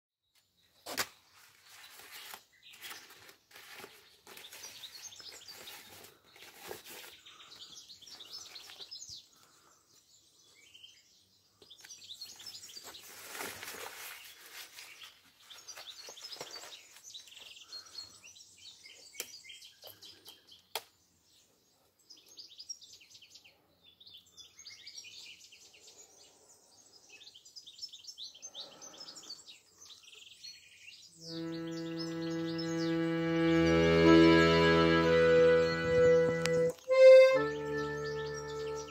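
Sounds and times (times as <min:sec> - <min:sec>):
birds chirping and twittering: 0:00.6 - 0:13.4, 0:14.2 - 0:38.9.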